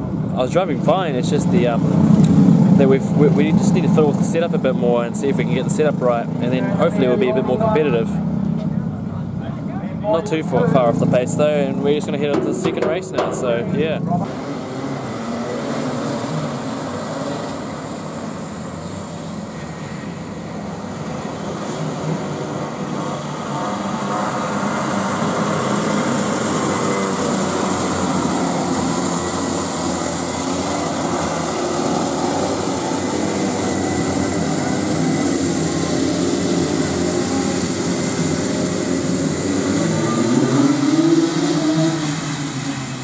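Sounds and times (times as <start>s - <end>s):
go-kart engines racing: 0.0s - 43.0s.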